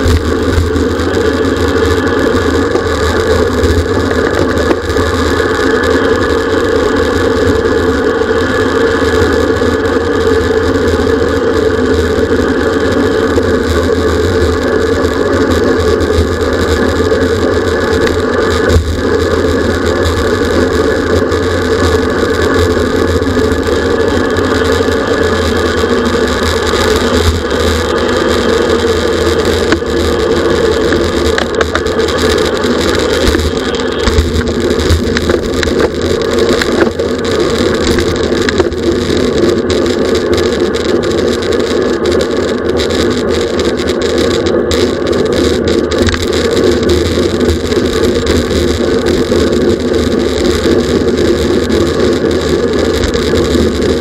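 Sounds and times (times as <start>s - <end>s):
bicycle ticking: 0.0s - 54.0s
tyres humming on pavement: 0.0s - 54.0s
wind and road rush: 0.0s - 54.0s.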